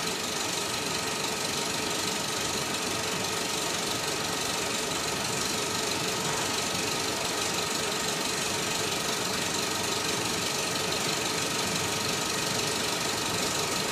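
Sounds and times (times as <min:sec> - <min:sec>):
film projector clattering: 0:00.0 - 0:13.9.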